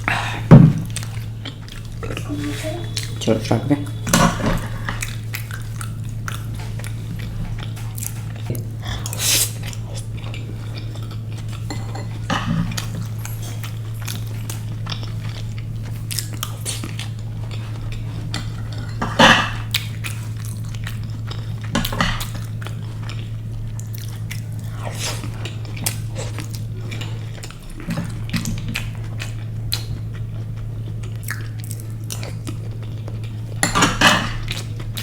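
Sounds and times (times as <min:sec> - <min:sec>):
biting and chewing: 0:00.0 - 0:35.0.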